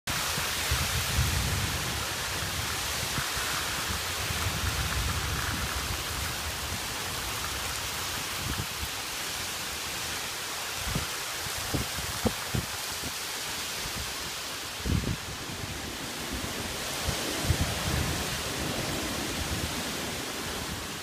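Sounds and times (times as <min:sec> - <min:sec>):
heavy rain pouring: 0:00.1 - 0:21.0.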